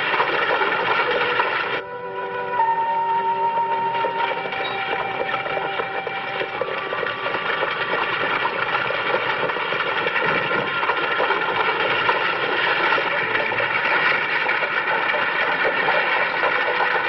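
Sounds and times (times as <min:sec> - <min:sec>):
hooves and rolling coach rumble: 0:00.0 - 0:01.8, 0:03.0 - 0:17.0.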